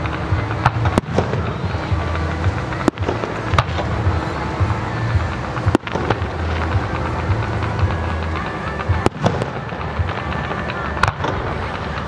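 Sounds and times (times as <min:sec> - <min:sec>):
sharp firework bangs: 0:00.0 - 0:08.1, 0:08.8 - 0:11.8
fireworks crackling: 0:00.0 - 0:12.0.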